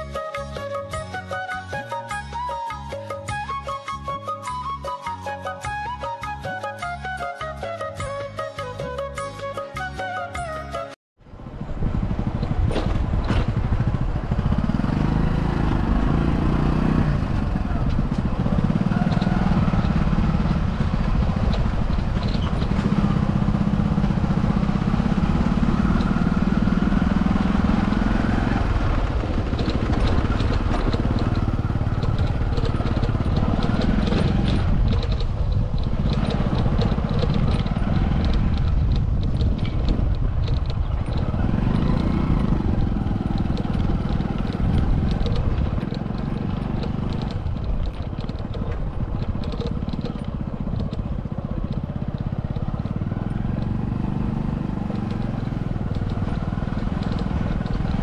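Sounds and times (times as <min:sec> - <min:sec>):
low wind rumble: 0:11.2 - 0:58.0
small vehicle engine running: 0:11.3 - 0:58.0.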